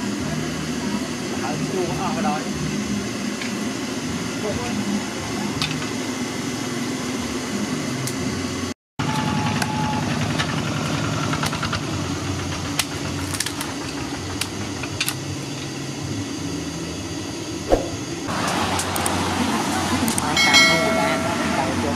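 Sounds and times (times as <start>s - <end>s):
engine-like hum: 0.0s - 21.9s.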